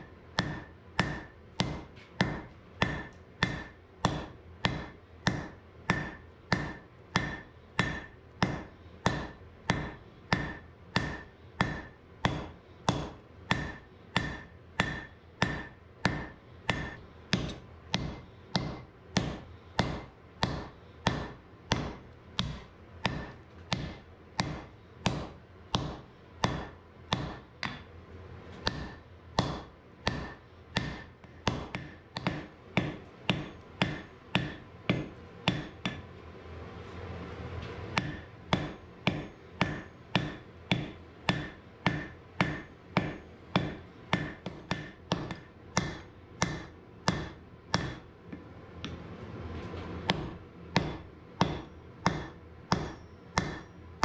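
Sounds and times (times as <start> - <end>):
hammer striking metal on anvil: 0.0 - 27.9, 28.6 - 36.1, 37.9 - 48.1, 50.1 - 54.0.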